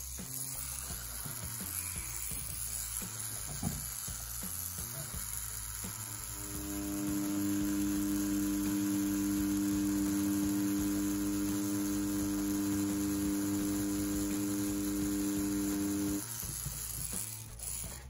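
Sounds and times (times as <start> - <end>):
tattoo pen humming: 0.0 - 18.0.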